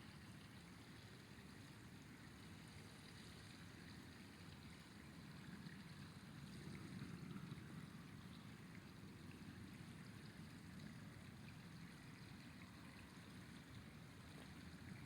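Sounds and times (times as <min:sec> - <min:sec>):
river water flowing and gurgling: 0:00.0 - 0:15.0.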